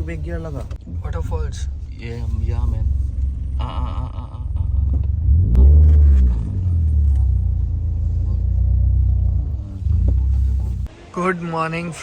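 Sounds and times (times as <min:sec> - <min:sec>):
vehicle driving on rough road: 0:00.0 - 0:11.3.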